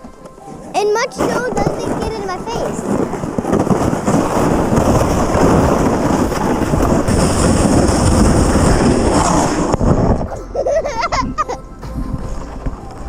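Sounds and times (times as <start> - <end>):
rc truck rumbling over snow: 0.0 - 13.0.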